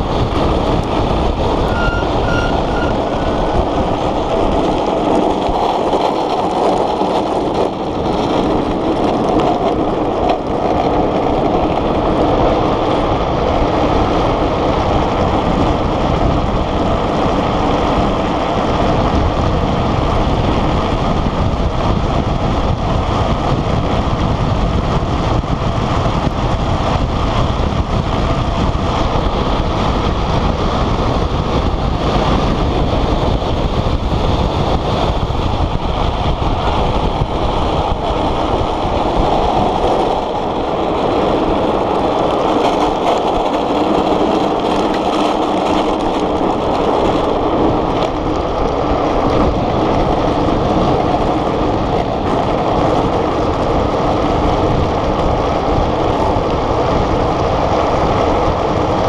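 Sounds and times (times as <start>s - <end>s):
small wheels rolling on asphalt: 0.0s - 59.0s
wind over microphone: 0.0s - 59.0s.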